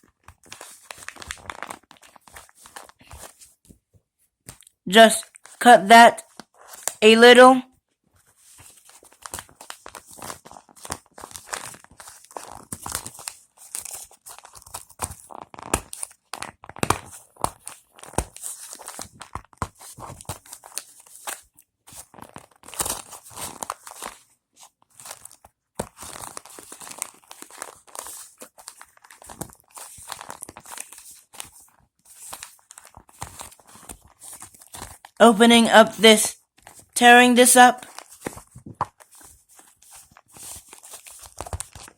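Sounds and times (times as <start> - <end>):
cardboard and plastic ripping: 0.1 - 3.5, 6.3 - 7.0, 8.5 - 24.2, 24.9 - 35.2, 37.8 - 41.9.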